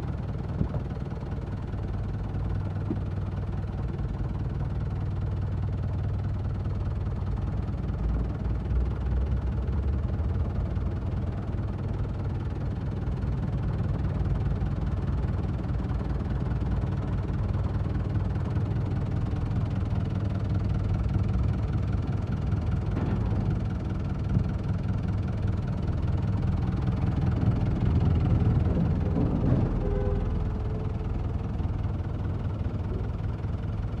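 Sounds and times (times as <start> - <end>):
tractor diesel engine idling low: 0.0 - 34.0.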